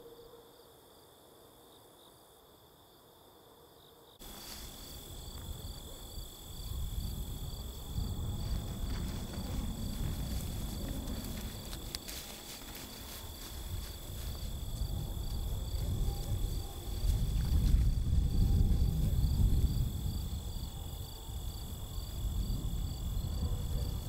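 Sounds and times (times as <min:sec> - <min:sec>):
insects trilling: 0:03.7 - 0:24.0.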